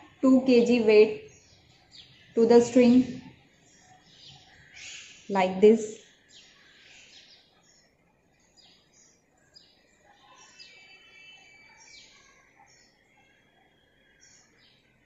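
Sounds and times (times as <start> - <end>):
faint high bird chirps: 0.0 - 15.0.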